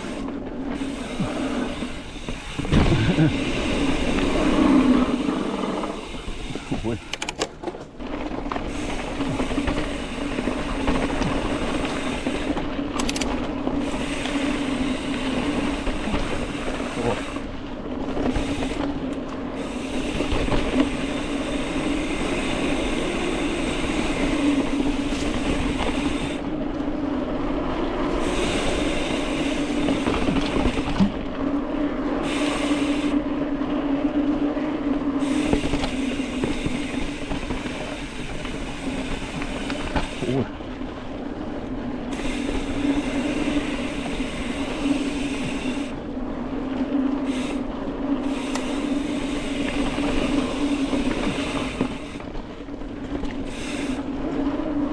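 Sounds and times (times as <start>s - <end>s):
bike rattling over bumps: 0.0s - 54.9s
bike tyres rolling on dirt: 0.0s - 54.9s.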